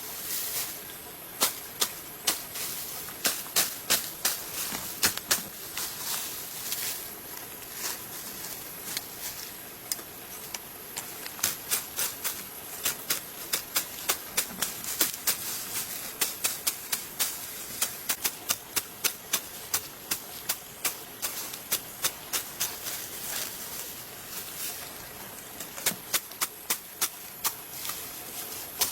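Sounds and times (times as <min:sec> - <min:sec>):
steady high hiss: 0:00.0 - 0:28.9.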